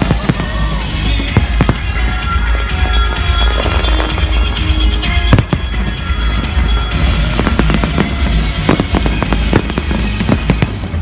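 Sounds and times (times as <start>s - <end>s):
fireworks bangs: 0.0s - 11.0s
loud soundtrack music: 0.0s - 11.0s.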